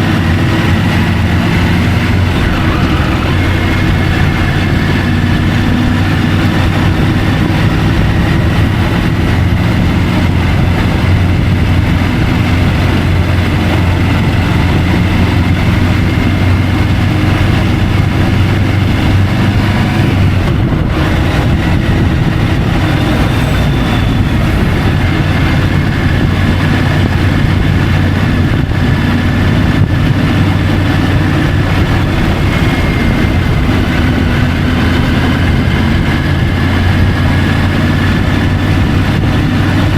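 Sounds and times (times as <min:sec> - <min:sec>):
constant rushing noise: 0:00.0 - 0:39.9
motorcycle engine running: 0:00.0 - 0:39.9.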